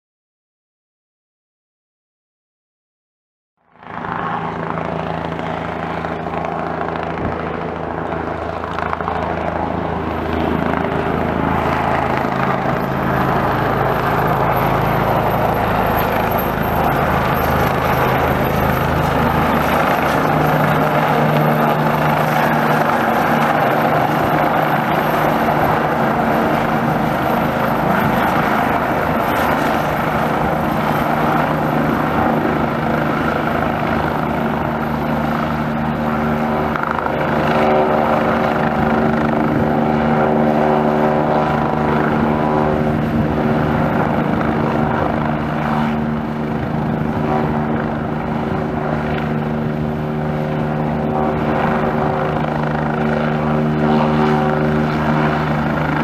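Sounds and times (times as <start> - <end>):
helicopter rotor and turbine: 3.7 - 56.0.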